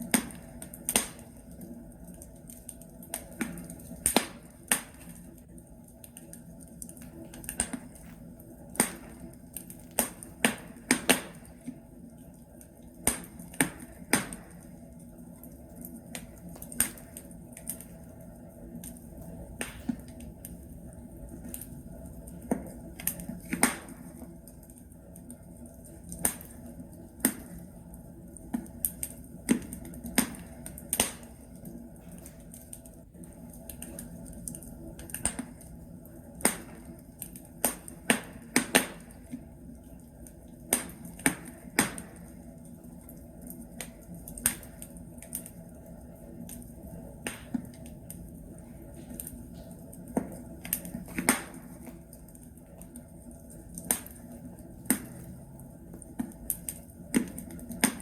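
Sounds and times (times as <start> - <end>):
burning logs crackling: 0.0 - 58.0
low rumble of fire: 0.0 - 58.0.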